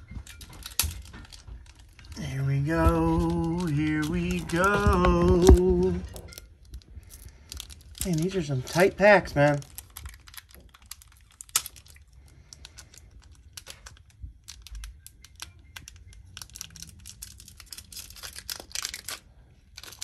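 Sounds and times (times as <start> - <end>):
foil wrapper crinkling: 0.0 - 20.0.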